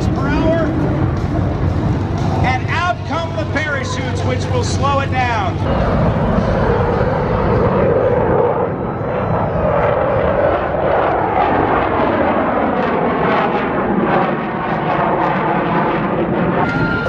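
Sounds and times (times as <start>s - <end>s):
airplane engine passing low: 0.0s - 17.0s.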